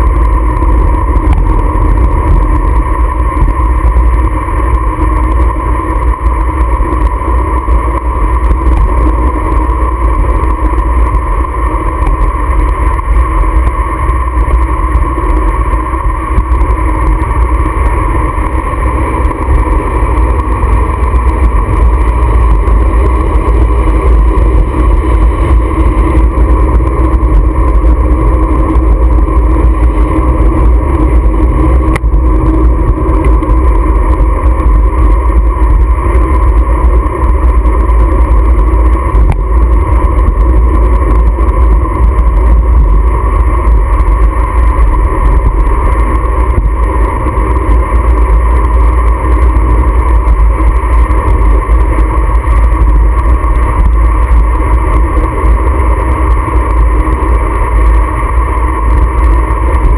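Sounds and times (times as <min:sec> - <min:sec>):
motorcycle engine and road noise: 0:00.0 - 0:59.9
wind rumble on microphone: 0:00.0 - 0:59.9.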